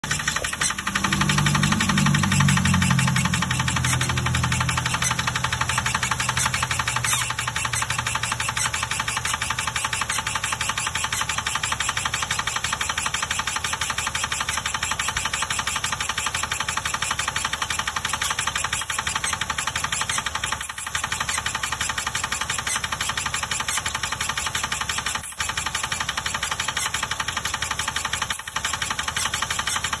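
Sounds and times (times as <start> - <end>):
car engine idling: 0.0 - 30.0
rapid ticking under hood: 0.0 - 30.0.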